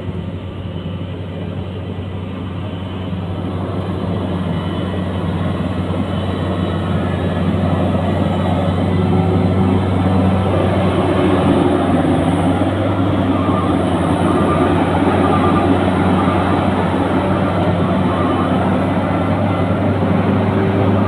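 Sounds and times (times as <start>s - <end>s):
combine harvester droning: 0.0s - 21.0s.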